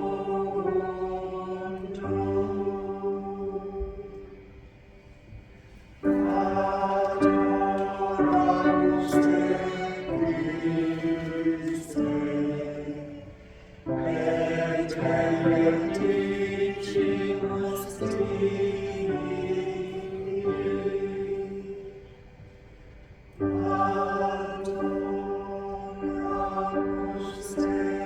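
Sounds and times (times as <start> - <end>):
choir singing a hymn: 0.0 - 28.0.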